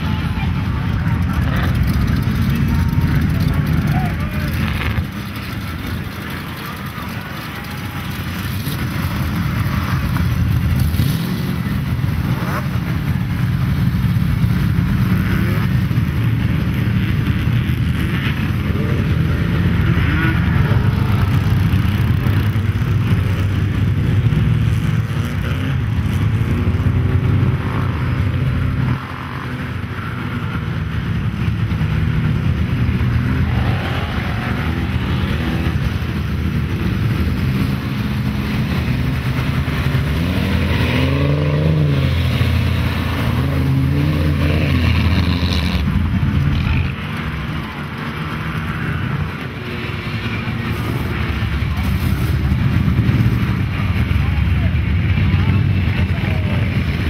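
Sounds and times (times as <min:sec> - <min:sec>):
off-road vehicle engines revving: 0:00.0 - 0:57.0.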